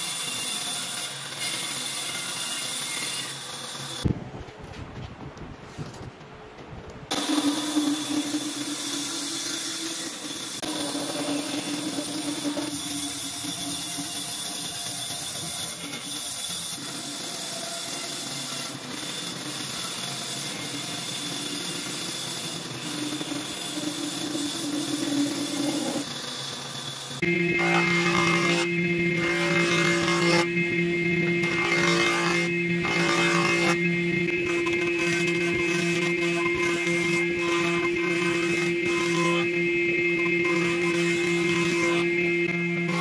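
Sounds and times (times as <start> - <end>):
band saw cutting wood: 0.0 - 4.1, 7.1 - 43.0.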